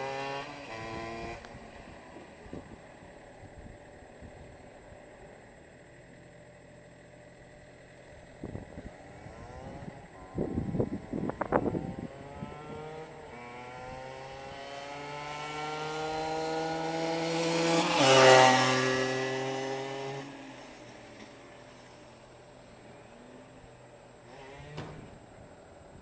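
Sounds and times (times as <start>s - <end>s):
motorbike engine passing: 0.0s - 4.6s, 8.0s - 25.5s.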